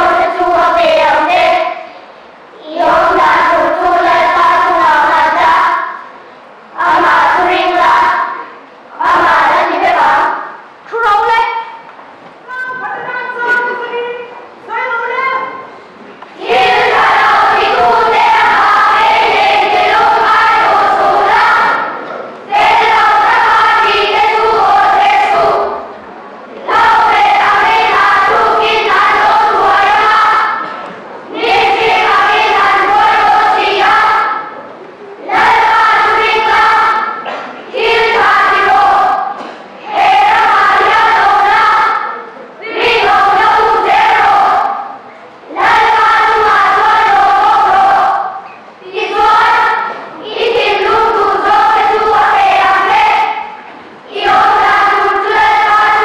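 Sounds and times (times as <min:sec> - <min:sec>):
children reciting in unison: 0:00.0 - 0:11.8, 0:16.4 - 0:56.0.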